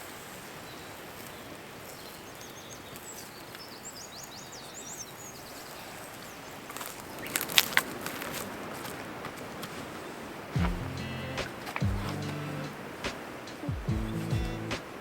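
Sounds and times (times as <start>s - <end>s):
steady outdoor hiss: 0.0s - 15.0s
songbird chirping: 0.6s - 7.8s, 10.0s - 15.0s.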